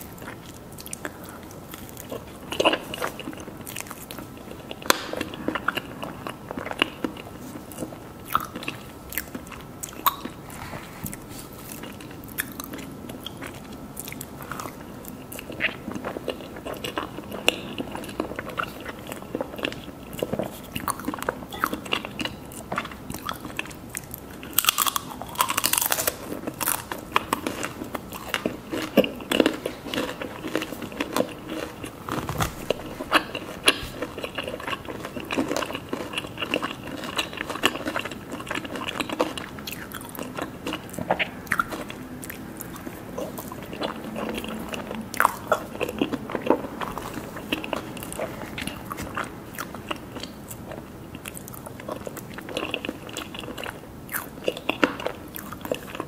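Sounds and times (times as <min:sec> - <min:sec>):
person chewing cake: 0:00.0 - 0:56.0.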